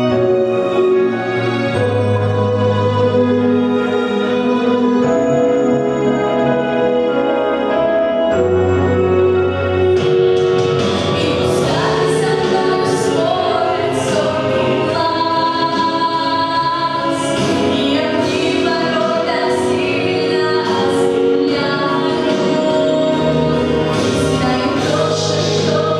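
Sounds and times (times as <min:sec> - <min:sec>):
instrumental accompaniment: 0:00.0 - 0:25.9.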